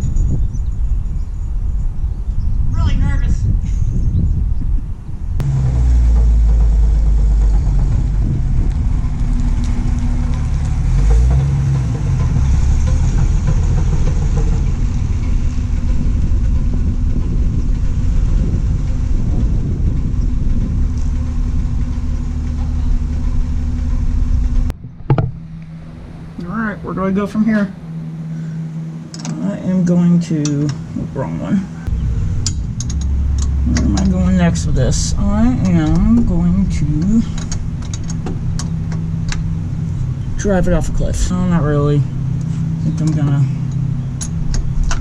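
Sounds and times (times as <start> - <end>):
car engine accelerating: 5.4 - 45.0.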